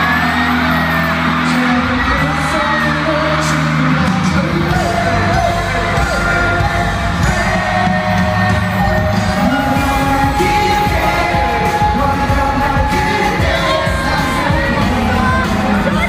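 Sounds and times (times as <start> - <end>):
fans screaming and cheering: 0.0 - 16.0
person singing: 0.0 - 16.0
pop song over sound system: 0.0 - 16.0.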